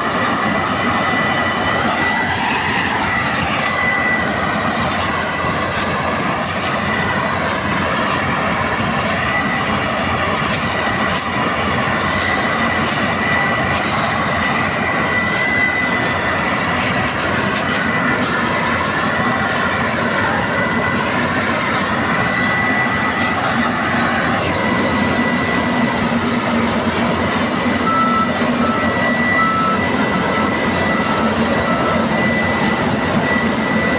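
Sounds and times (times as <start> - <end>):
combine harvester running: 0.0 - 33.9
high whine: 0.0 - 33.9.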